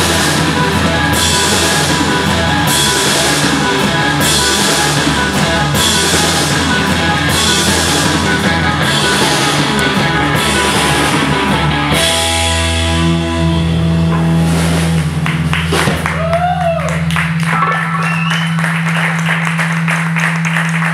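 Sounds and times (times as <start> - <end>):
bass guitar: 0.0 - 20.9
drum kit: 0.0 - 20.9
live rock band playing: 0.0 - 20.9.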